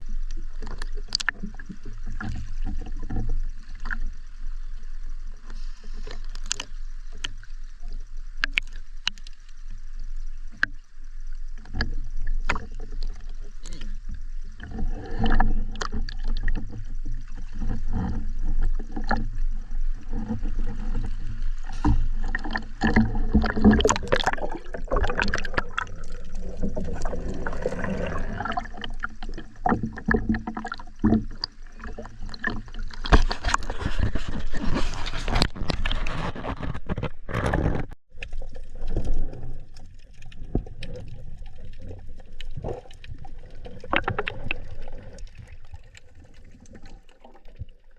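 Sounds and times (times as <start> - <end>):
sea water sloshing: 0.0 - 47.9.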